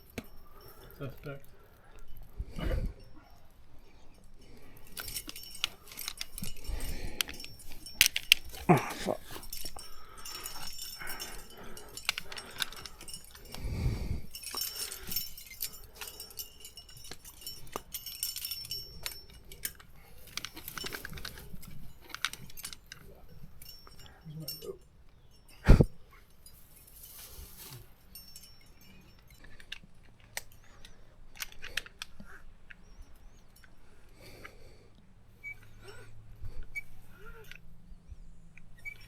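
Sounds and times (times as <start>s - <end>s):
metal hardware jingling: 0.0s - 34.5s.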